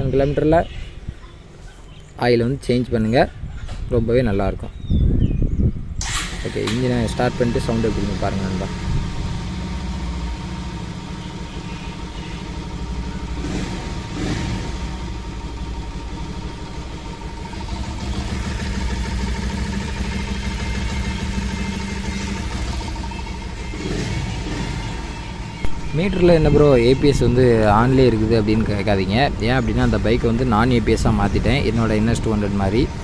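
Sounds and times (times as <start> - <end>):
motorcycle engine running: 6.3 - 33.0.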